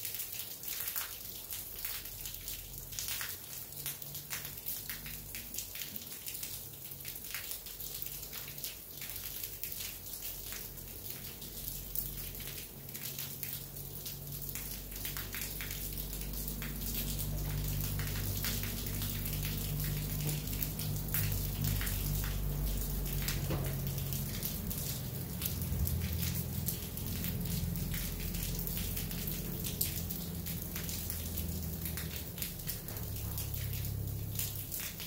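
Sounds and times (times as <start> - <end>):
raindrops pattering: 0.0 - 35.0.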